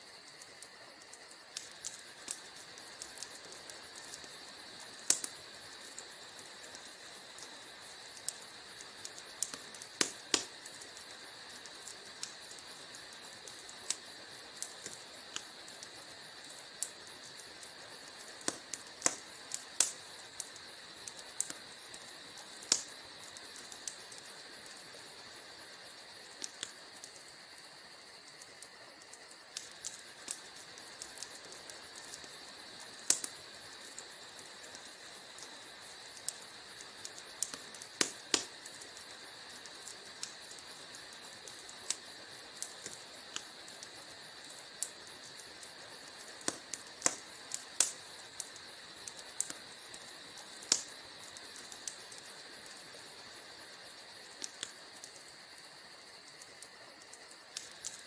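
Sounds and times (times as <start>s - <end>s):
steady high hiss: 0.0s - 58.0s
wood fire crackling and popping: 0.0s - 58.0s.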